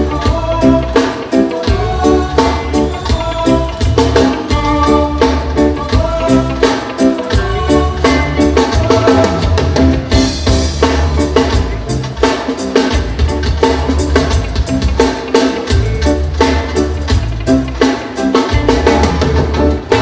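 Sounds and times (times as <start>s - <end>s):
live reggae band playing: 0.0s - 20.0s.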